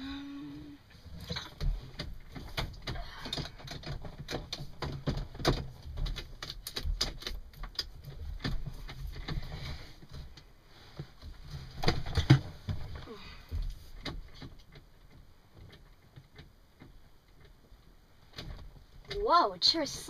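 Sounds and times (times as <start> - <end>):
irregular clicks and knocks: 0.9 - 20.0.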